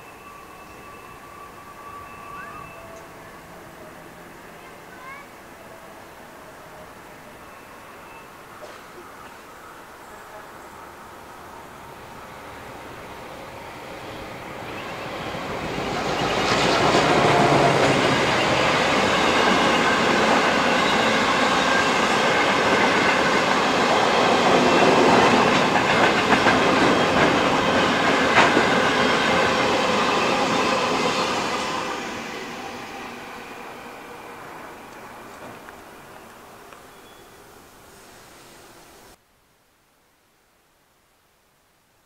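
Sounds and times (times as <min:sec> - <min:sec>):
diesel locomotive passing: 0:00.0 - 0:38.9.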